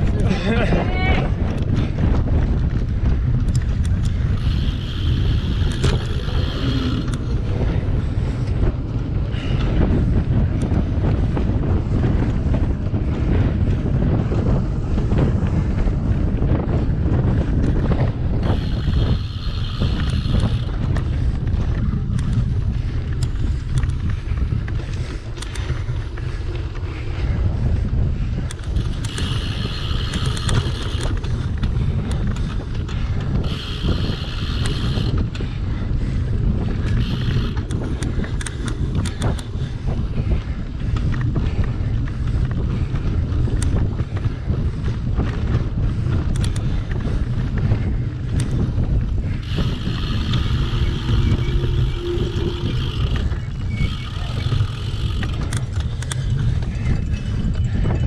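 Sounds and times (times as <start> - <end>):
bike knocks and rattles: 0.0 - 58.0
low rumble: 0.0 - 58.0
wind buffeting microphone: 0.0 - 58.0.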